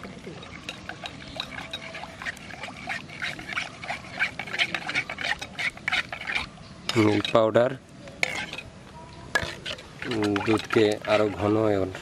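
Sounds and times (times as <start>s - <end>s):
metal spoon scraping bowl: 0.4s - 7.6s, 8.2s - 8.7s, 9.3s - 12.0s.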